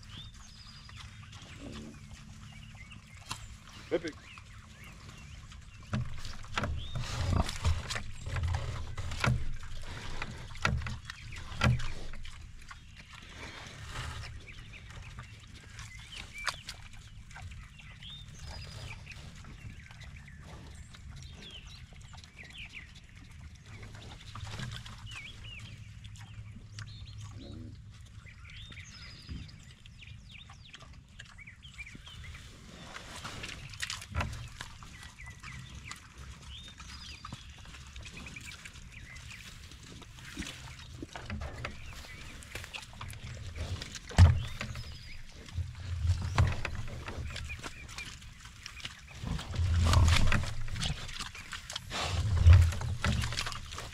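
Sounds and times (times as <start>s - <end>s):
birds chirping: 0.0s - 53.9s
pigs grunting and snuffling: 0.0s - 53.9s.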